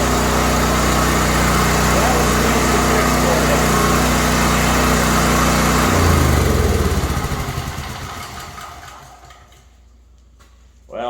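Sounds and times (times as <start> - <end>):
small generator engine running: 0.0 - 9.7.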